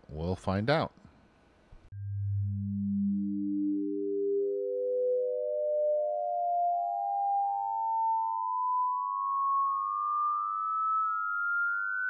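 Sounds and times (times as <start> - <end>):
pure sine tones climbing: 1.9 - 12.0.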